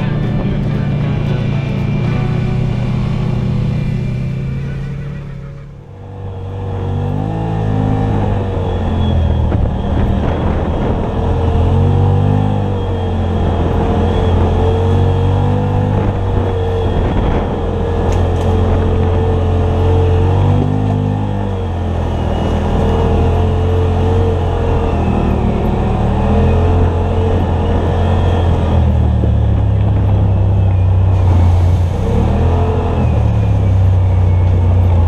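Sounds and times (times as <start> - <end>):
engine whine: 0.0 - 35.0
vehicle engine revving: 0.0 - 35.0.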